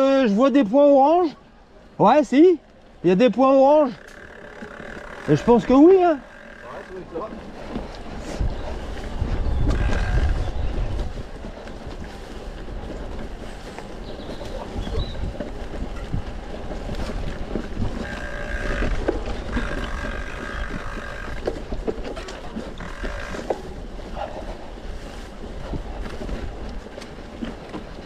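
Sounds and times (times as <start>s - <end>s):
bike rattling and knocking: 3.2s - 28.0s
wind on microphone: 4.2s - 28.0s.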